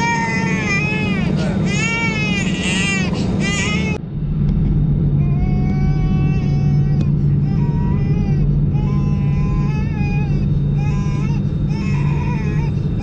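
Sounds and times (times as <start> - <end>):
young child crying: 0.0 - 4.0, 5.2 - 13.0
airliner engines idling hum: 0.0 - 13.0.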